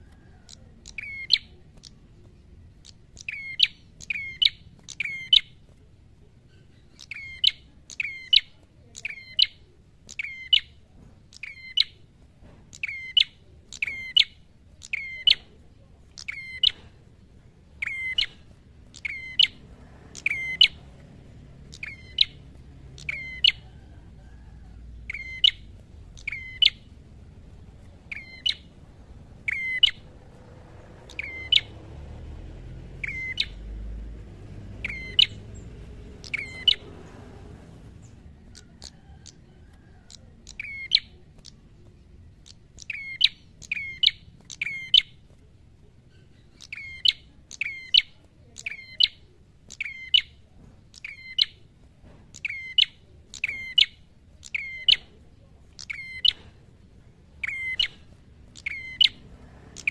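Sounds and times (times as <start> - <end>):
bird sharp high chirps: 0.1 - 5.7, 6.4 - 12.1, 12.7 - 30.4, 31.0 - 37.3, 38.0 - 45.3, 46.0 - 59.9.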